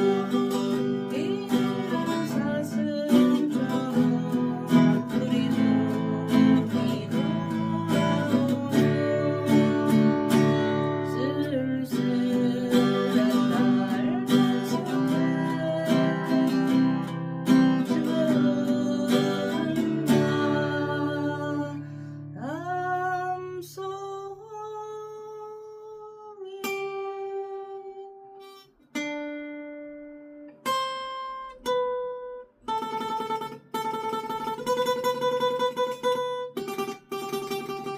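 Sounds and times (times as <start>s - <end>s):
acoustic guitar playing: 0.0s - 37.9s.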